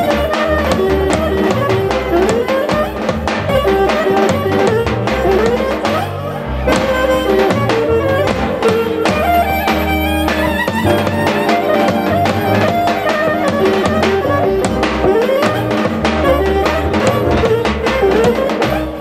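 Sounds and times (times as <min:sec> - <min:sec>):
clarinet melody with pitch slides: 0:00.0 - 0:19.0
folk dance band music: 0:00.0 - 0:19.0
steady drum beat: 0:00.0 - 0:19.0.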